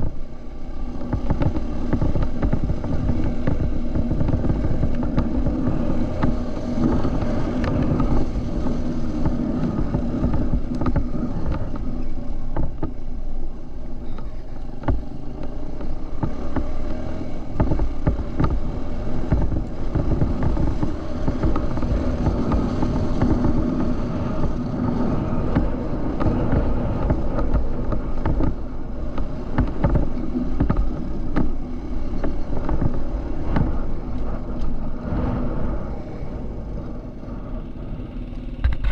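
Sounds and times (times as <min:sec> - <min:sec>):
knocks and clatter: 0:00.0 - 0:35.1, 0:38.4 - 0:38.9
dirt bike engine running: 0:00.0 - 0:38.9.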